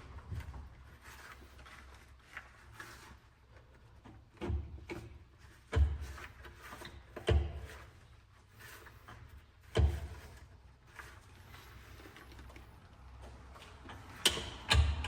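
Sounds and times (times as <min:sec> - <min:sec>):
faint handling noise: 0:00.0 - 0:14.2.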